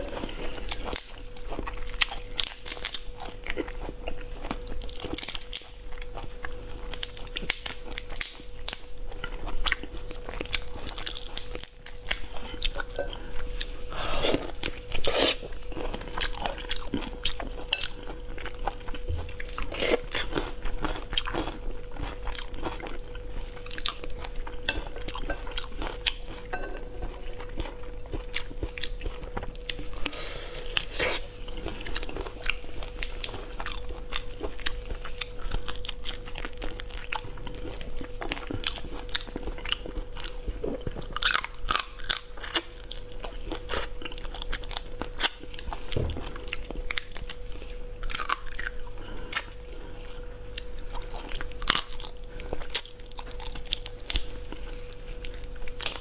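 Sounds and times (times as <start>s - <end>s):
crunching and chewing: 0.0s - 56.0s
faint steady hum: 0.0s - 56.0s.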